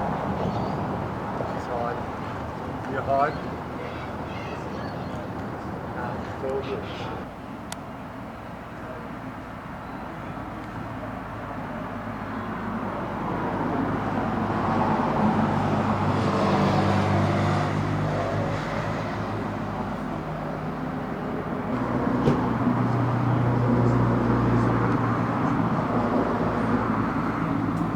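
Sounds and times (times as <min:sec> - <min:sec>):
passing road traffic hum: 0:00.0 - 0:27.9.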